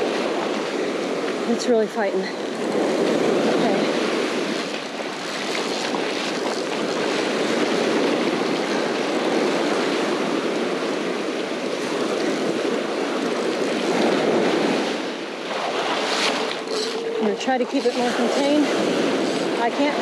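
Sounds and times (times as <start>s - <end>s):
surf breaking on sand: 0.0s - 20.0s
wind on microphone: 0.0s - 20.0s.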